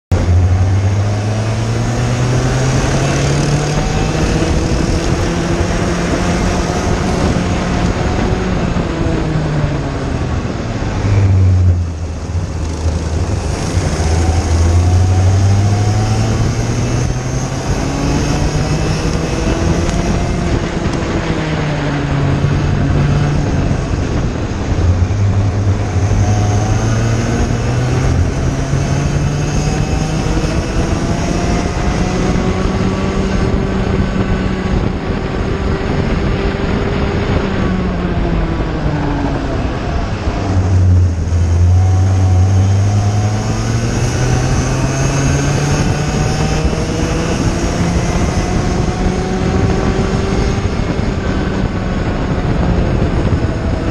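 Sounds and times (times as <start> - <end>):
kart engine at racing speed: 0.0 - 53.9.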